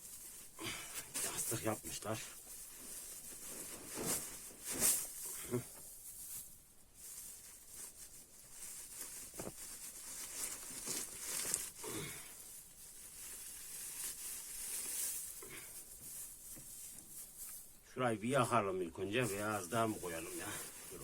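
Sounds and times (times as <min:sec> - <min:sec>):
dry grass stuffing rustling: 0:00.0 - 0:21.0.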